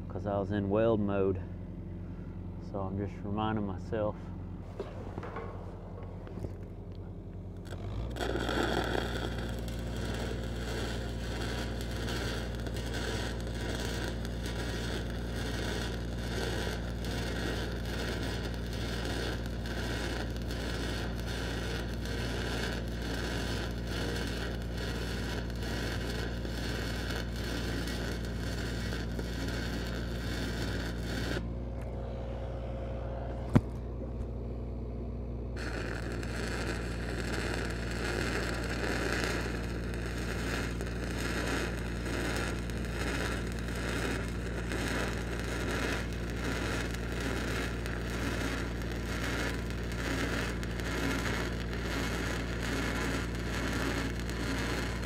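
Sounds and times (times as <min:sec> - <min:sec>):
welder engine running: 0:01.4 - 0:55.0
welding arc crackling: 0:04.6 - 0:31.5, 0:35.6 - 0:55.0.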